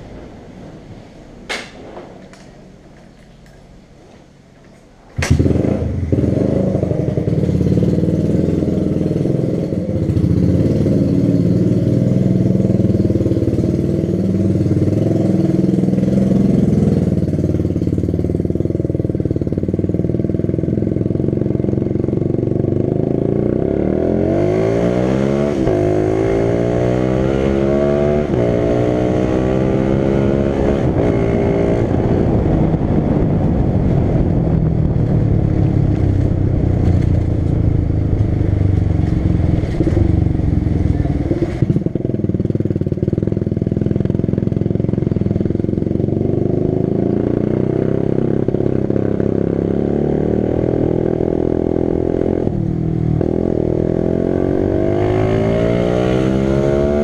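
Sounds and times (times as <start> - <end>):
small motorcycle engine accelerating: 5.2 - 57.0.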